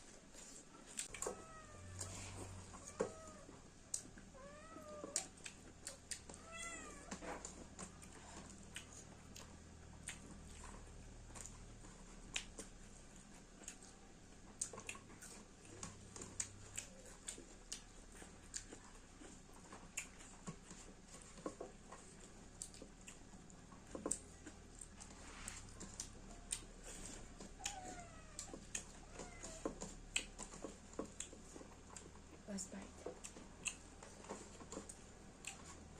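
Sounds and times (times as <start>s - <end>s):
mouths chewing: 2.0s - 35.9s.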